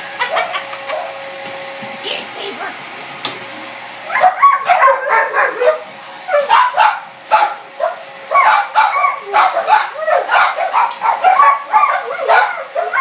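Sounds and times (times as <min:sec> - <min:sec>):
dogs barking and yipping: 0:00.0 - 0:01.8, 0:04.0 - 0:13.0.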